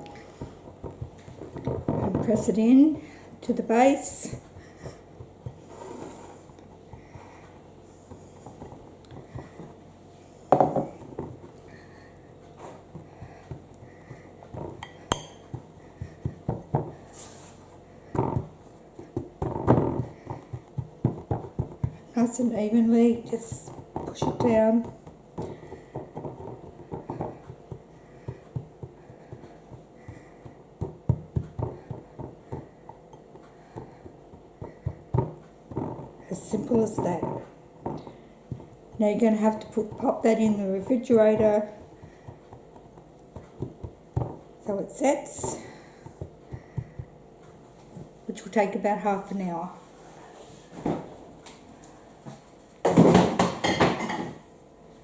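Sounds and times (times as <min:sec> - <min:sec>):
utensil scraping and tapping: 0:00.0 - 0:09.8, 0:12.5 - 0:48.1.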